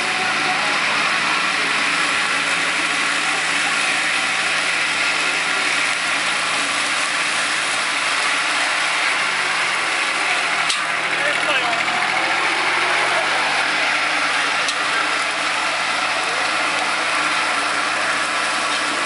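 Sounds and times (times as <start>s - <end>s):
tractor engine with mower whirring: 0.0s - 19.0s.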